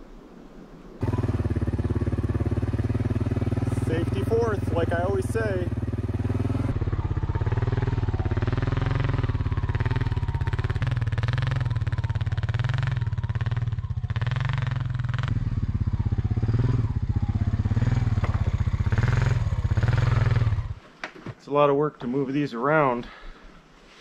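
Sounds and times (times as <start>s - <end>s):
quad bike engine running: 1.0s - 20.8s.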